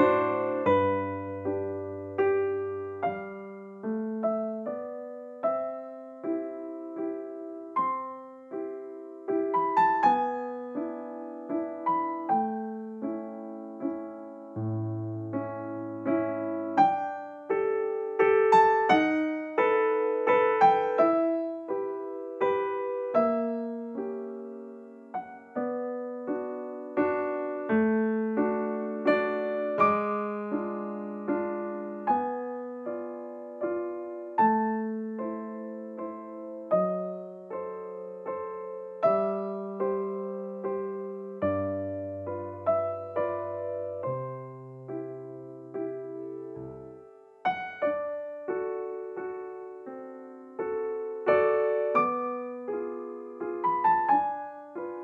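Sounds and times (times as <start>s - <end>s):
gentle piano melody: 0.0s - 55.0s.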